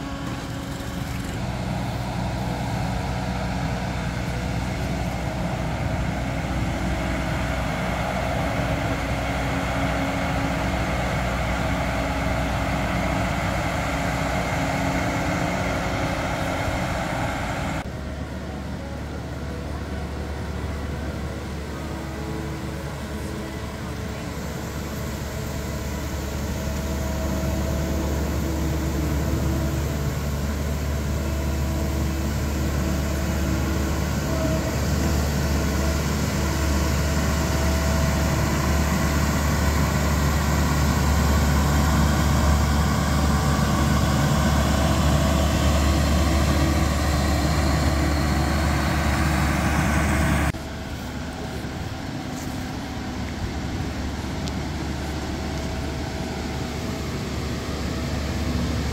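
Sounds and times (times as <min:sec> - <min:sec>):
combine harvester diesel engine: 0:00.0 - 0:58.9.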